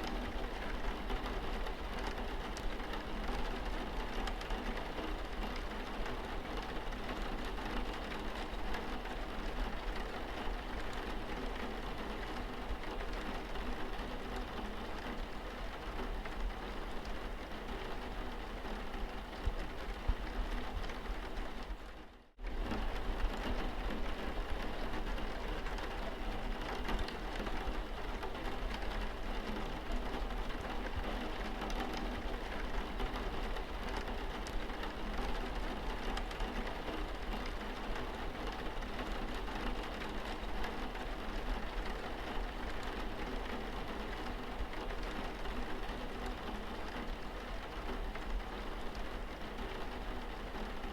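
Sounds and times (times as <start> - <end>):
rain on car windscreen: 0.0 - 50.9.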